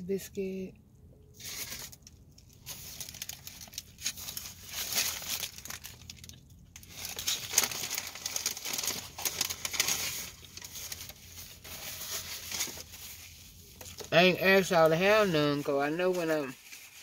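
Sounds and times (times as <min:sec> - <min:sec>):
paper wrapper crinkling: 0:01.4 - 0:17.0.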